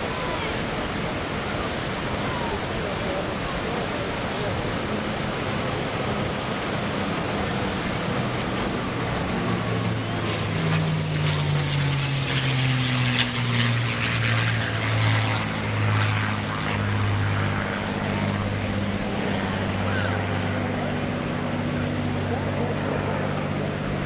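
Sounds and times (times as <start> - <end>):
aircraft engine drone: 0.0 - 24.0.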